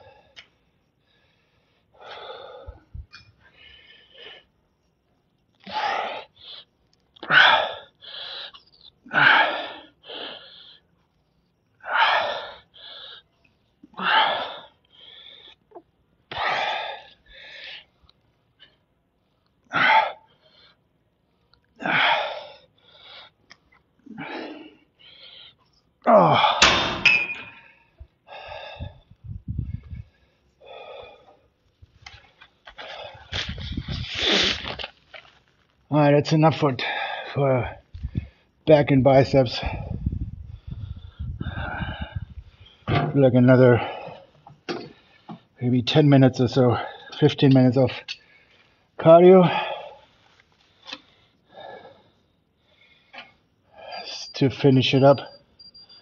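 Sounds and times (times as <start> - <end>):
man breathing hard: 0.0 - 4.9, 5.6 - 11.2, 11.8 - 34.7, 36.7 - 38.6, 39.5 - 42.9, 43.8 - 45.6, 48.1 - 54.2.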